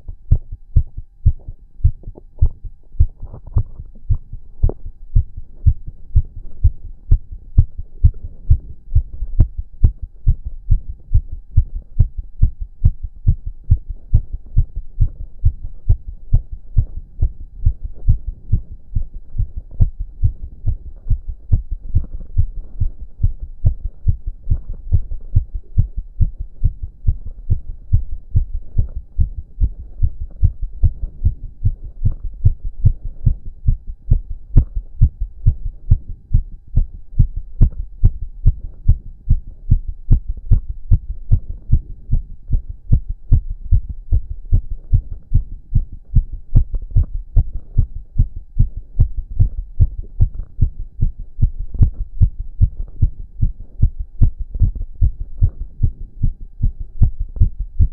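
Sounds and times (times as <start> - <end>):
fast heartbeat thumps: 0.0 - 57.9.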